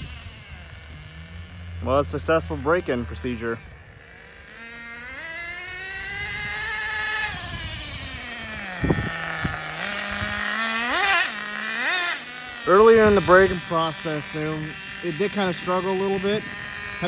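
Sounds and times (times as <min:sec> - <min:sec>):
nitro engine revving and idling: 0:00.0 - 0:17.0.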